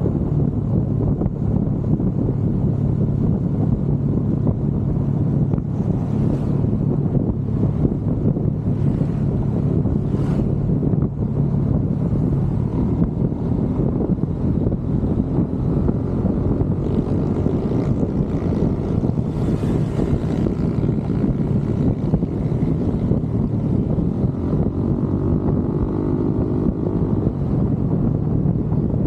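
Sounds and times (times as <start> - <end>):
motorcycle engine running: 0.0 - 29.0
wind rushing over microphone: 0.0 - 29.0.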